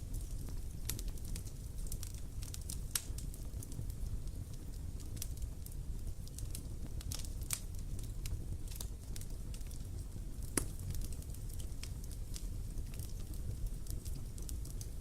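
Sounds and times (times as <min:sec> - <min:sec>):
campfire crackling and popping: 0:00.0 - 0:15.0
low rumble of burning fire: 0:00.0 - 0:15.0.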